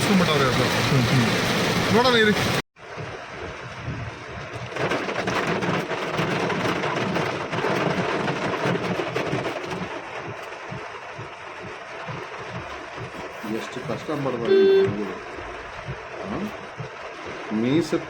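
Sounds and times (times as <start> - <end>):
heavy rain drumming on car: 0.0 - 18.0.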